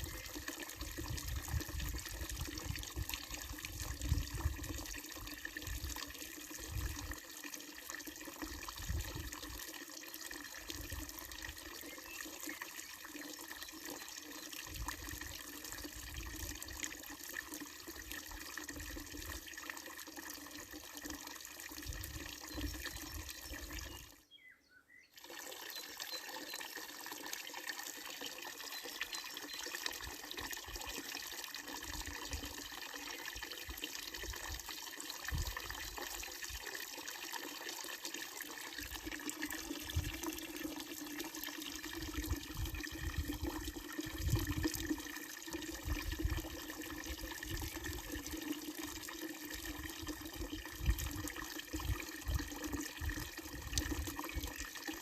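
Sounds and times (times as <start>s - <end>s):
fountain water splashing into basin: 0.0s - 24.1s, 25.2s - 55.0s.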